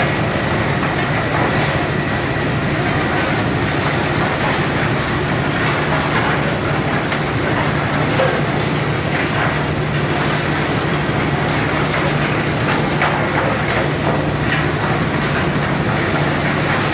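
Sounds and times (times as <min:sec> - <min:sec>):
machine running loudly: 0:00.0 - 0:16.9.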